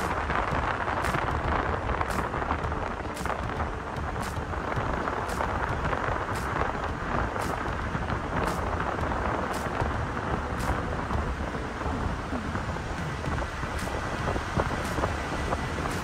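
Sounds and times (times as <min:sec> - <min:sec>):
low rumble: 0:00.0 - 0:16.0
wind and tyre noise inside car: 0:00.0 - 0:16.0.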